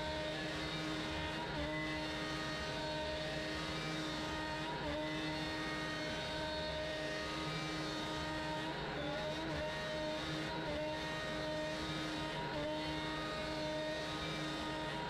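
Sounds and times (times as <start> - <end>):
end mill cutting wood: 0.0 - 15.0
router spindle whining: 0.0 - 15.0.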